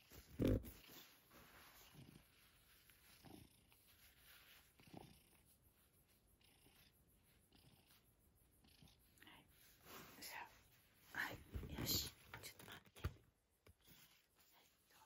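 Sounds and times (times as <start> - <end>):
cat purring faintly: 0.0 - 15.0.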